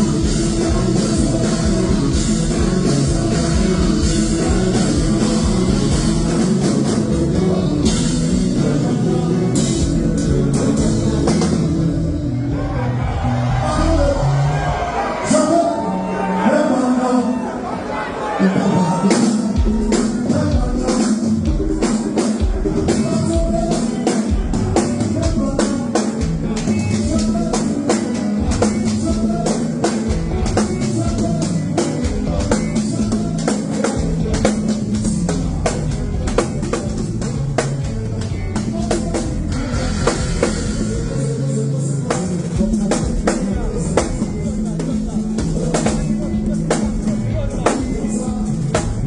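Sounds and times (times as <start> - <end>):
drum kit beat: 0.0 - 12.8, 18.7 - 49.0
bass line: 0.0 - 17.2, 18.5 - 49.0.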